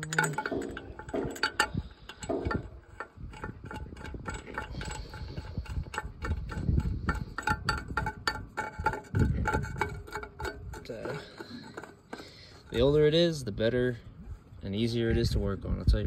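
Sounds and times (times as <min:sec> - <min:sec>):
small metal clicks and ticks: 0:00.0 - 0:12.9.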